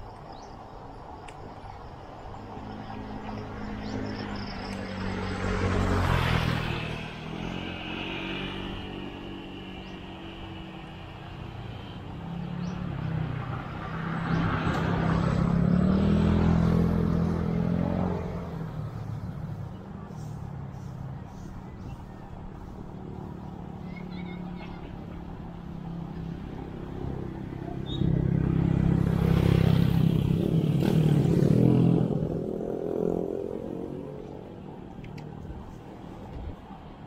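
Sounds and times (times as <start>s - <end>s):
road and wind noise: 0.0s - 37.0s
vehicles passing by: 0.0s - 37.0s.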